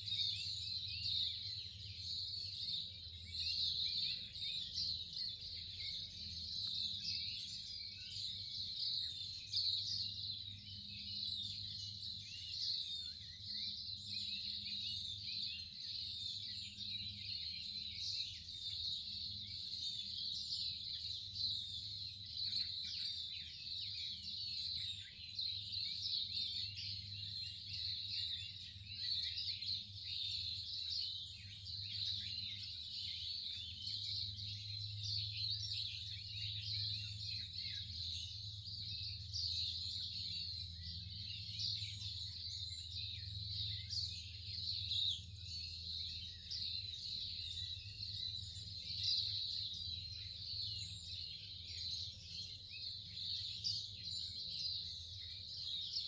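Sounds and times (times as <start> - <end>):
chorus of birds singing: 0.0 - 56.0.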